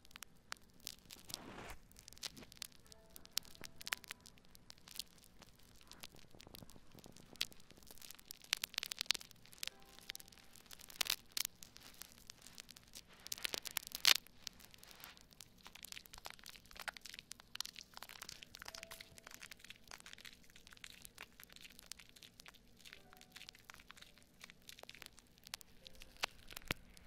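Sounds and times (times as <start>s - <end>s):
foam crackling and popping: 0.0s - 27.0s.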